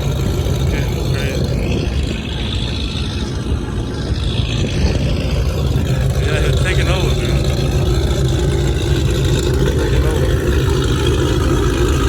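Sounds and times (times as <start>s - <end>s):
car engines rumbling: 0.0s - 12.0s
faint crowd voices: 0.0s - 12.0s.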